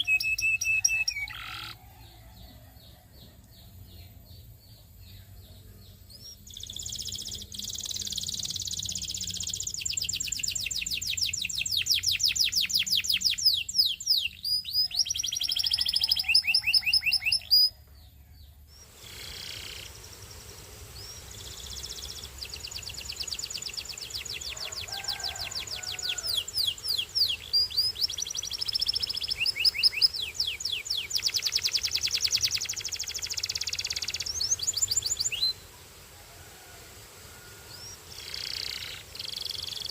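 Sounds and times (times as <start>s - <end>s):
canary singing trills: 0.0s - 35.6s, 37.6s - 39.9s.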